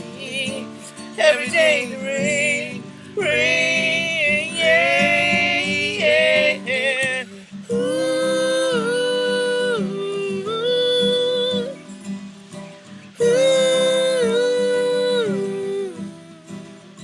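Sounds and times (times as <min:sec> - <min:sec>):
person singing long notes: 0:00.0 - 0:11.9, 0:13.2 - 0:16.8
acoustic guitar: 0:00.0 - 0:17.0.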